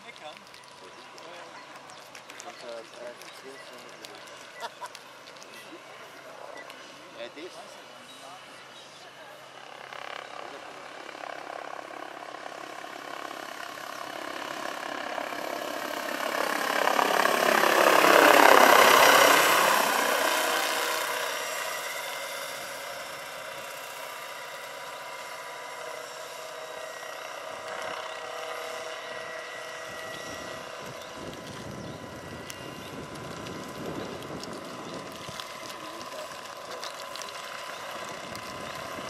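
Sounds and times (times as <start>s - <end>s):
model helicopter rotor whirring: 0.0s - 39.0s.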